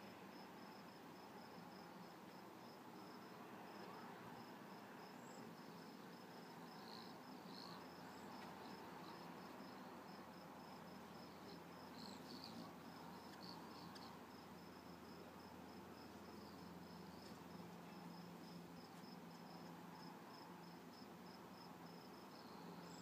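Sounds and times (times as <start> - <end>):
crickets chirping: 0.3 - 23.0.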